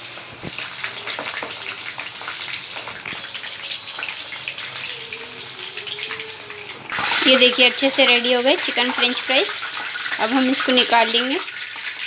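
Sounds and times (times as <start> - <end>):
oil deep-frying with crackling: 0.0 - 12.0.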